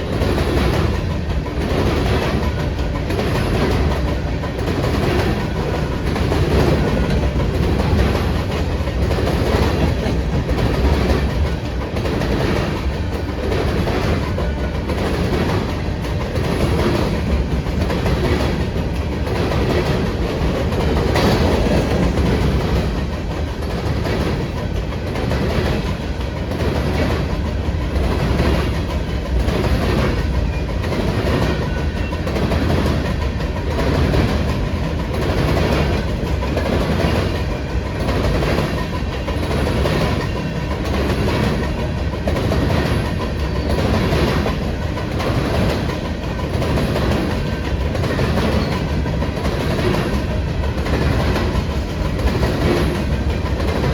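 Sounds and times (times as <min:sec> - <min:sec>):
train rumble: 0:00.0 - 0:53.9
train wheels clicking over rail joints: 0:00.0 - 0:53.9.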